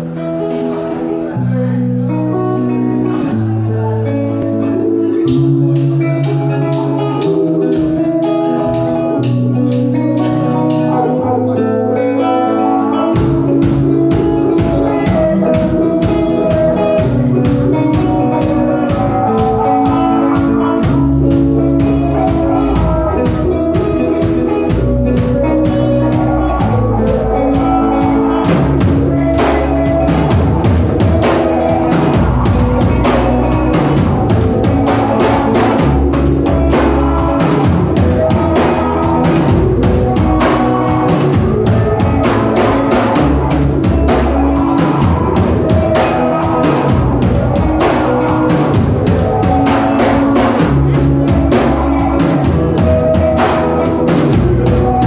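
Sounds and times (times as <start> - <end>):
drum kit: 0.0 - 1.8, 4.8 - 11.5, 13.0 - 55.0
bass guitar: 0.0 - 55.0
electric guitars: 0.0 - 55.0
live rock band playing: 0.0 - 55.0.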